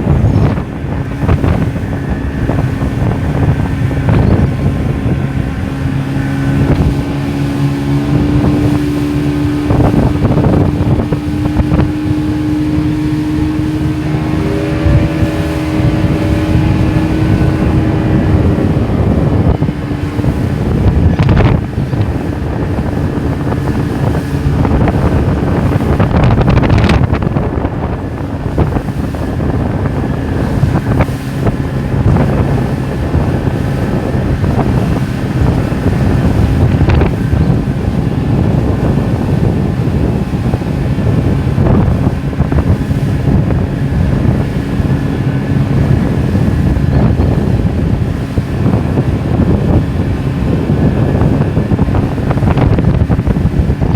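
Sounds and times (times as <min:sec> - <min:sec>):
boat engine running: 0:00.0 - 0:53.9
water thudding against hull: 0:00.0 - 0:53.9
wind buffeting microphone: 0:00.0 - 0:53.9.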